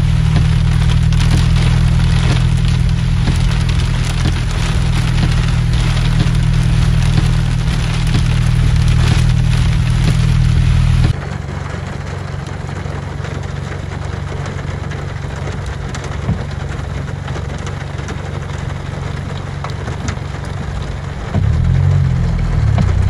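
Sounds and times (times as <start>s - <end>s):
heavy rain downpour: 0.0s - 23.0s.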